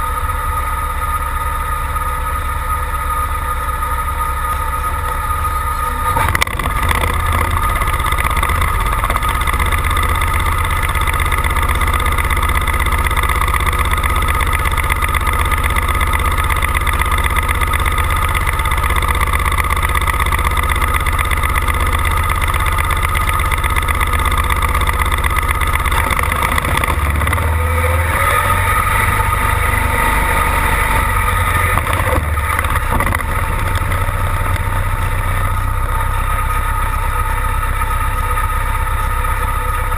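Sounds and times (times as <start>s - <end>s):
high engine whine: 0.0s - 39.9s
tractor engine idling: 0.0s - 39.9s.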